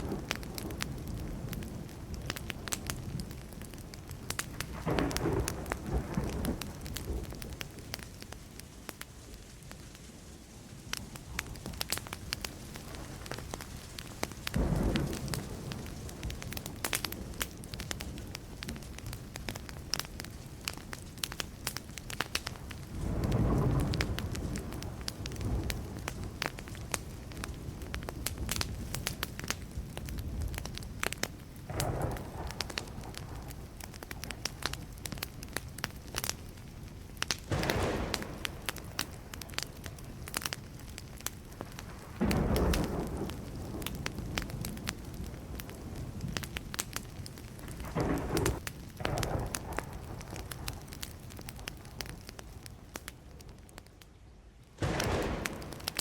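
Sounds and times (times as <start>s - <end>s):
distant thunder rumbling: 0.0s - 7.9s, 11.4s - 20.1s, 22.4s - 29.0s, 31.6s - 35.9s, 37.4s - 53.8s, 54.8s - 56.0s
wood fire crackling and popping: 0.0s - 56.0s.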